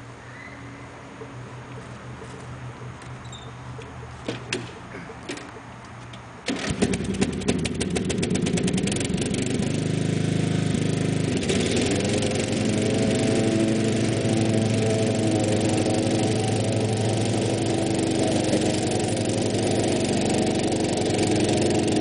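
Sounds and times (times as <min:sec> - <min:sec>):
lawn tractor engine starting: 0:03.2 - 0:22.0.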